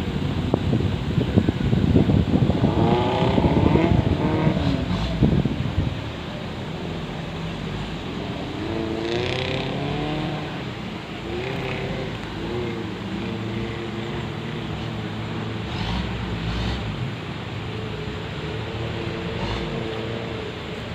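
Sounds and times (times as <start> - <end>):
steady rushing noise: 0.0 - 20.9
jeep engine revving: 2.4 - 5.8, 6.9 - 20.7.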